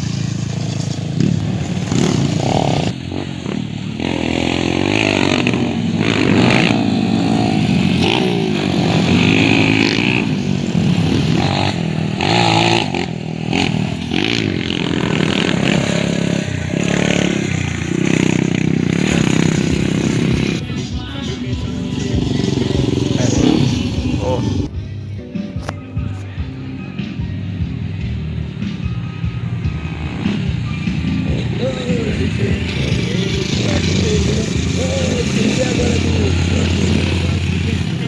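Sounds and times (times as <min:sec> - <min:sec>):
dirt bikes revving past: 0:00.0 - 0:20.8, 0:21.4 - 0:24.7, 0:28.5 - 0:38.0.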